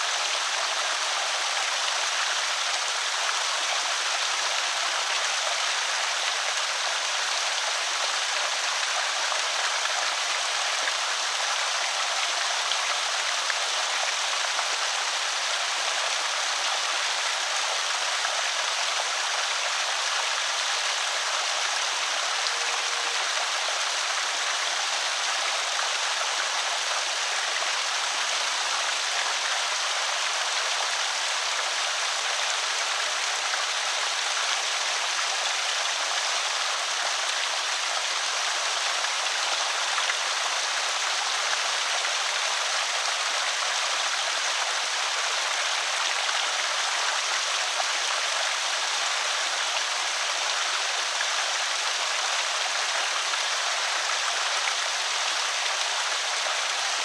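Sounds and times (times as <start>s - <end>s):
water pouring over spillway: 0.0s - 57.0s.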